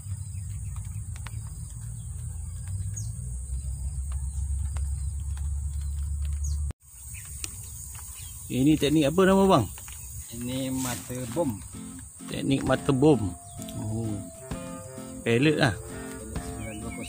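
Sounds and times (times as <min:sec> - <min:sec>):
bird chirps: 0:00.0 - 0:17.0.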